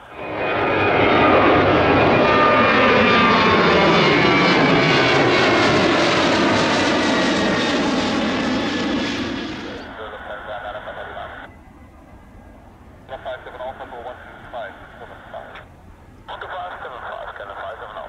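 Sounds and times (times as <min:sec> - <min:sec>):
jet engines roaring and whining: 0:00.0 - 0:18.0.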